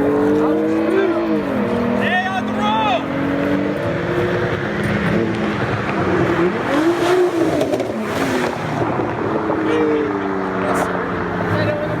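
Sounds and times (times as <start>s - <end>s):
car accelerating past: 0.0s - 12.0s
car engines racing: 0.0s - 12.0s.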